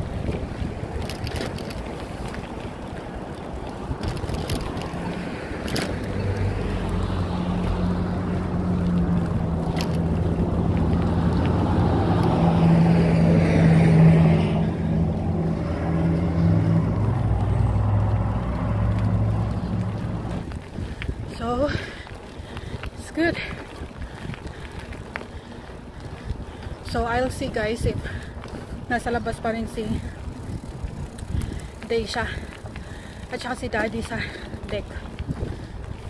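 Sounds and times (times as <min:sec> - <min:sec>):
vehicle engine hum: 0:00.0 - 0:36.0
wind rushing over microphone: 0:00.0 - 0:36.0.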